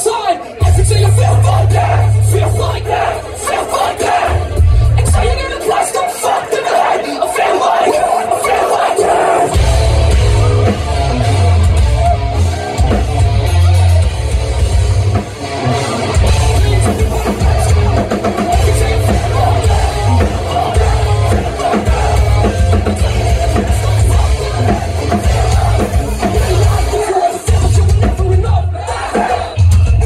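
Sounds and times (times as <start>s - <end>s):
distorted electric guitars: 0.0s - 6.5s, 7.2s - 30.0s
heavy bass: 0.6s - 5.8s, 9.0s - 30.0s
pounding drum kit: 0.6s - 6.4s, 7.2s - 30.0s.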